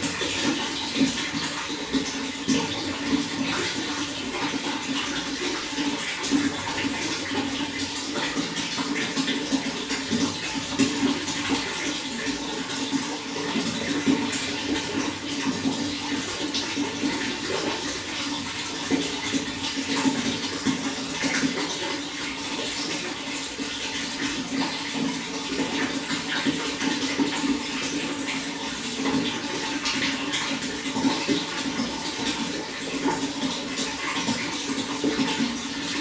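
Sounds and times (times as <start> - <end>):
running water flowing: 0.0 - 36.0.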